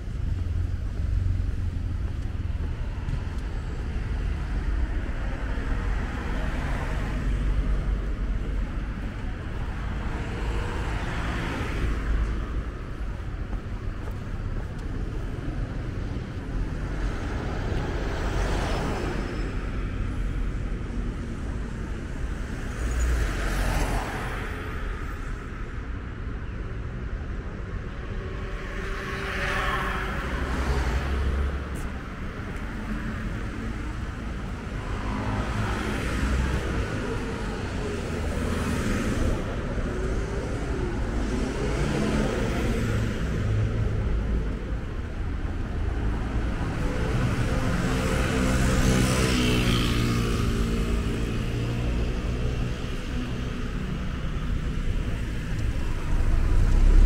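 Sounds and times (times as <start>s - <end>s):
cars passing: 0.0s - 57.0s
low traffic rumble: 0.0s - 57.0s.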